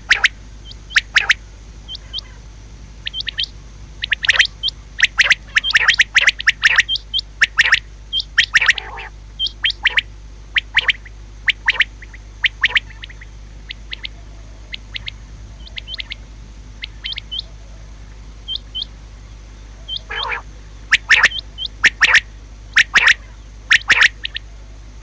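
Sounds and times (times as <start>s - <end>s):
quail calling: 0.0s - 19.0s, 19.6s - 24.8s.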